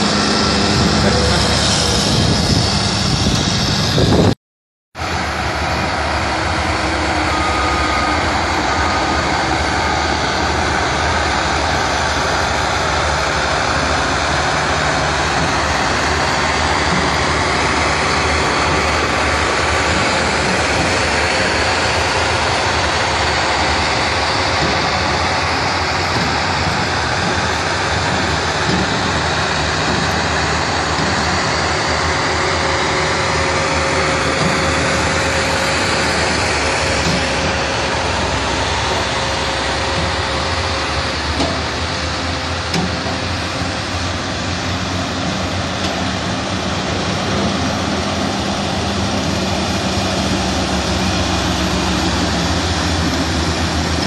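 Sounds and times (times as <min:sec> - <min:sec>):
diesel engines droning: 0:00.0 - 0:04.4, 0:05.0 - 0:54.0.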